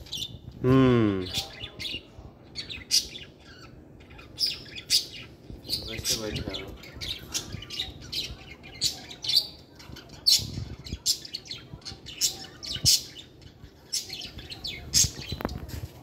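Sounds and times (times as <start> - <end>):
budgerigars chirping: 1.3 - 15.5.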